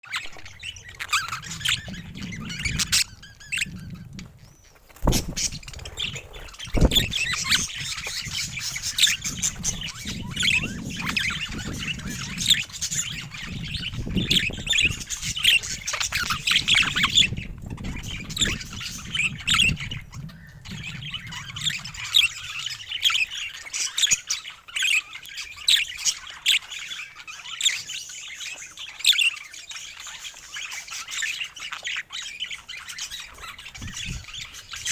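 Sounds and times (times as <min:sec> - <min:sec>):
budgerigars chirping and squawking: 0:00.1 - 0:34.9.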